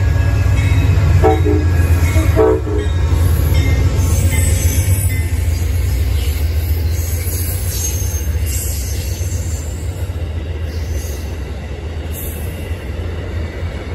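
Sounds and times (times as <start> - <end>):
train rolling past on rails: 0.0 - 13.9.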